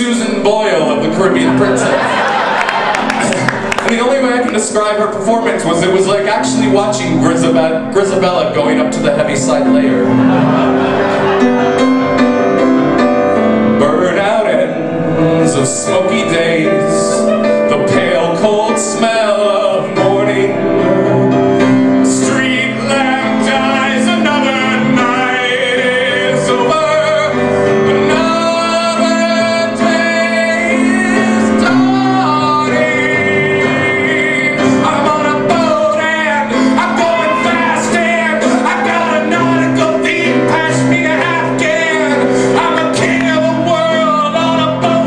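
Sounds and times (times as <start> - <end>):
piano accompaniment: 0.0 - 45.0
man singing: 3.9 - 10.6, 13.7 - 45.0.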